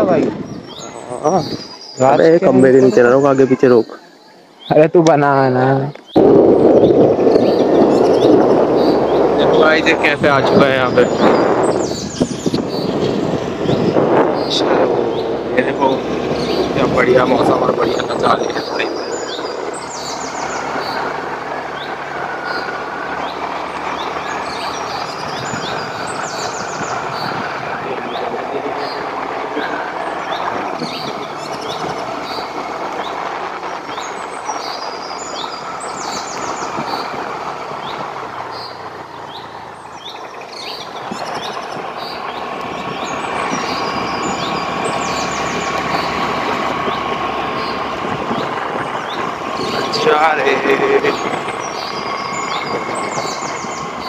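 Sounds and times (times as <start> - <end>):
birds chirping: 0.0 - 54.0
vehicle road and wind noise: 0.0 - 54.0.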